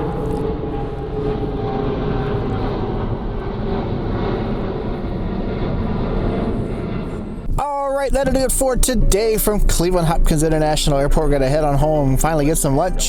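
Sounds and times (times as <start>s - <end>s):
jet aircraft engines passing: 0.0s - 13.0s.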